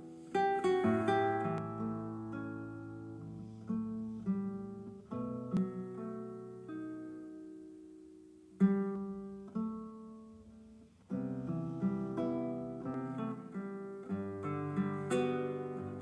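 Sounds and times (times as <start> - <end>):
acoustic guitar through speaker: 0.0 - 16.0.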